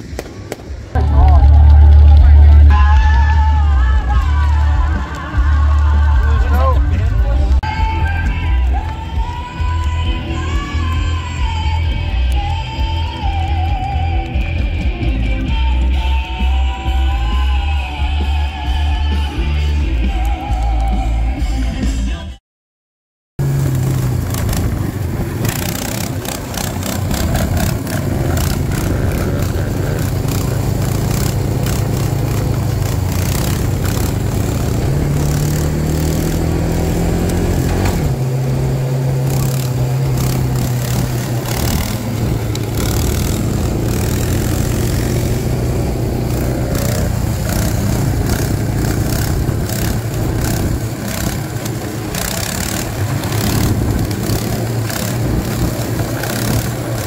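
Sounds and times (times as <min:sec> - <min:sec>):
dirt bike engine running: 0:00.0 - 0:21.3, 0:23.4 - 0:57.0.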